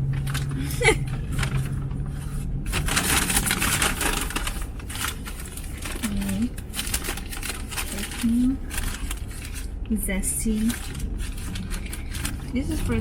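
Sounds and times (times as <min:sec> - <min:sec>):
car engine idling: 0:00.0 - 0:13.0
paper bags rustling: 0:00.0 - 0:13.0.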